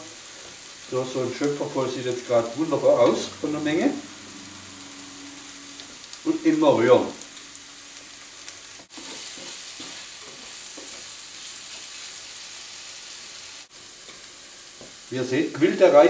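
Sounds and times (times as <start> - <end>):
mushrooms sizzling in frying pan: 0.0 - 16.0.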